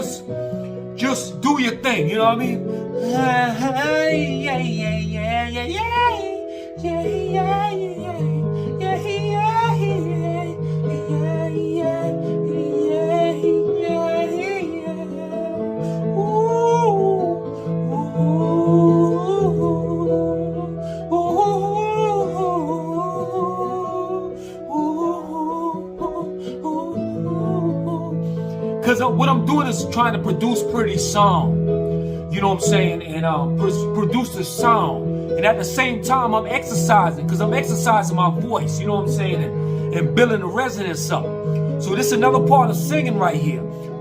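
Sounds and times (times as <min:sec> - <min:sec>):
instrumental backing track: 0:00.0 - 0:44.0.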